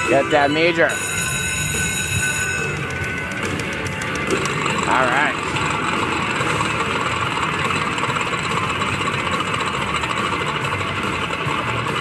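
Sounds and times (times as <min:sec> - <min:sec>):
slot machine sound effects: 0:00.0 - 0:11.8.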